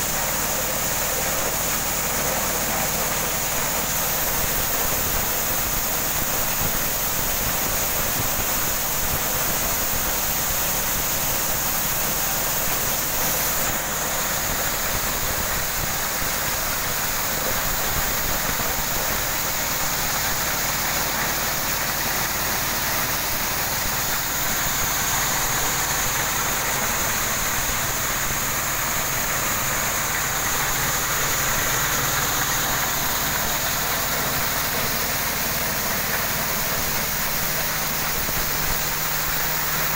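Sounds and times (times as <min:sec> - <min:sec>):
corn kernels pouring with a hiss: 0:00.0 - 0:39.9.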